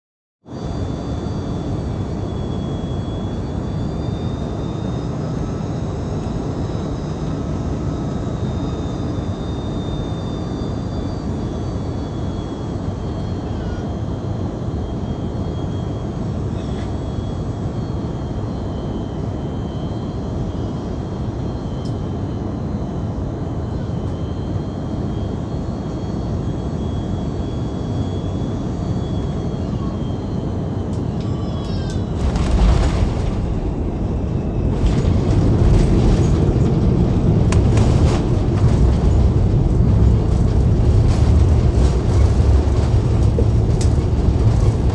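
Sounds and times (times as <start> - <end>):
high wavering whine: 0.4 - 44.9
rushing air in aircraft cabin: 0.5 - 44.9.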